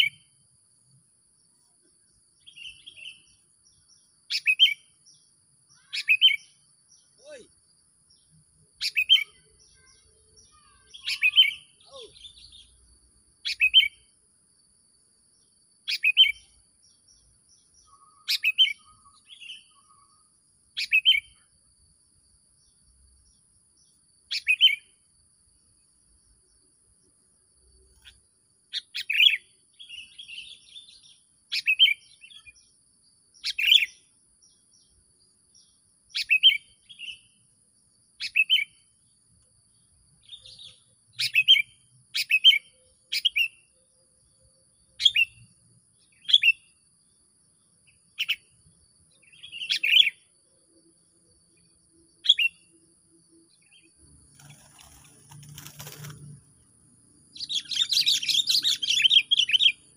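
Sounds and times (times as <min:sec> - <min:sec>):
songbird calling: 0:00.0 - 0:00.4, 0:01.5 - 0:14.2, 0:15.4 - 0:21.6, 0:22.6 - 0:25.0, 0:27.7 - 0:35.0, 0:35.6 - 0:37.5, 0:38.1 - 0:50.4, 0:51.4 - 0:59.9.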